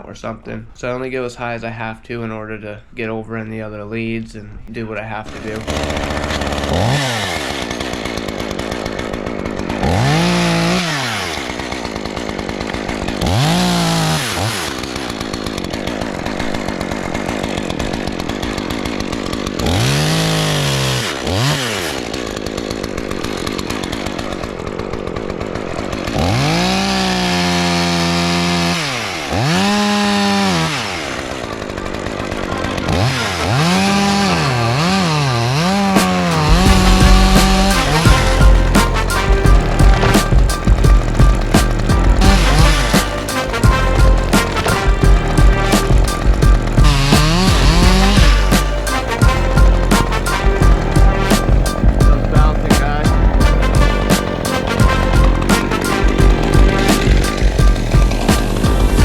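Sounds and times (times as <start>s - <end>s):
chainsaw revving: 5.1s - 59.0s.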